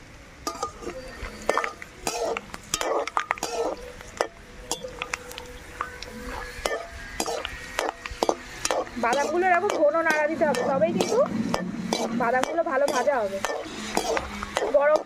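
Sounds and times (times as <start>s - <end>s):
oil sizzling: 0.0s - 15.0s
metal skimmer scraping wok: 0.4s - 15.0s.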